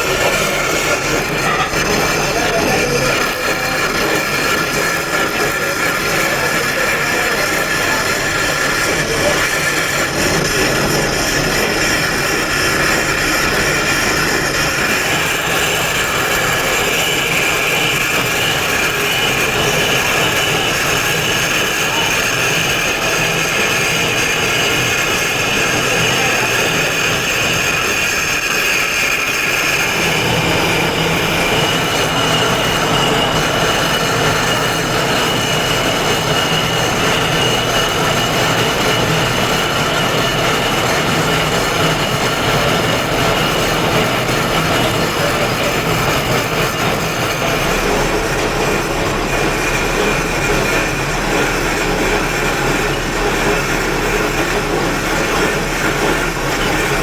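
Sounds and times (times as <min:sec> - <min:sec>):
power tool grinding stone: 0:00.0 - 0:57.0.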